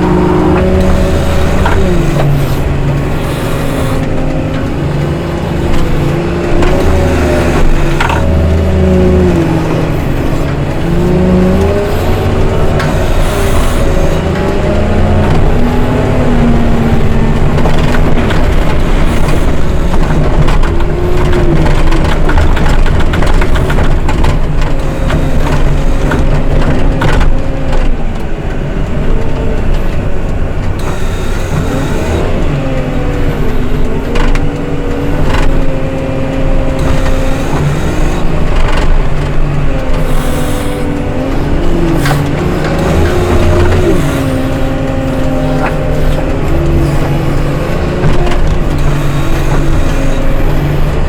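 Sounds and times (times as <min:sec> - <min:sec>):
diesel engine under load: 0:00.0 - 0:51.0.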